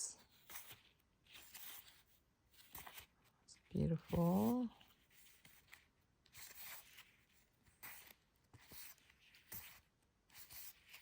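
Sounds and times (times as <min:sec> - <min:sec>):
paper rustling: 0:00.2 - 0:11.0.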